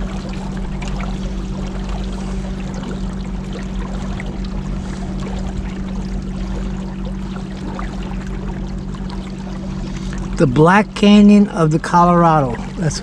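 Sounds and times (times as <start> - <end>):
boat motor humming: 0.0 - 13.0
water rushing along hull: 0.0 - 13.0.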